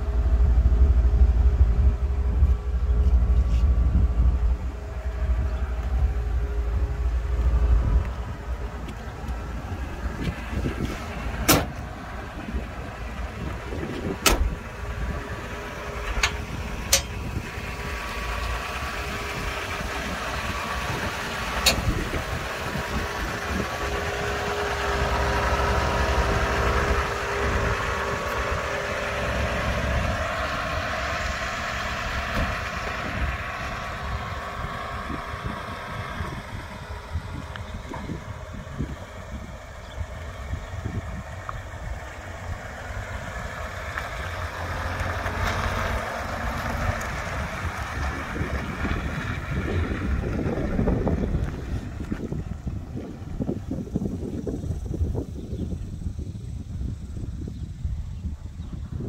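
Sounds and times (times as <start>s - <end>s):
car engine running: 0.0s - 57.9s
wind rumbling on microphone: 0.0s - 59.0s.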